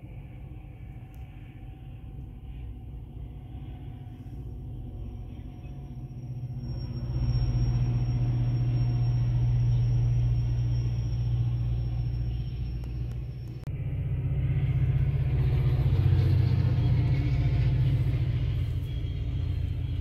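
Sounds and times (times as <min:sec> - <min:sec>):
diesel train passing rumble: 0:00.0 - 0:20.0
high whine: 0:00.0 - 0:20.0.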